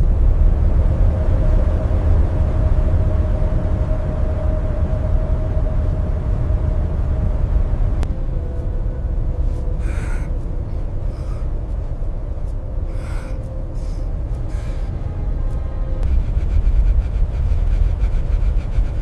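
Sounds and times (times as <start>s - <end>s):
blizzard wind howling: 0.0s - 19.0s
rushes of wind: 0.0s - 19.0s.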